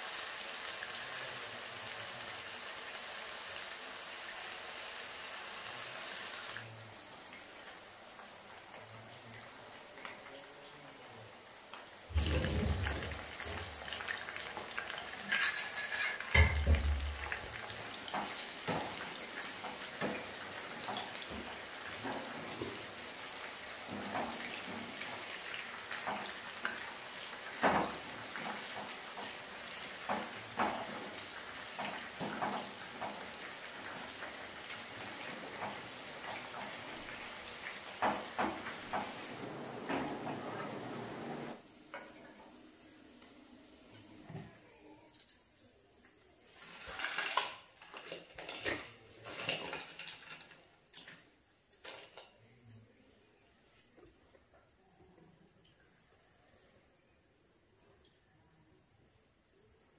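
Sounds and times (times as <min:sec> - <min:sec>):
batter sizzling in hot oil: 0:00.0 - 0:44.2, 0:46.3 - 0:51.1.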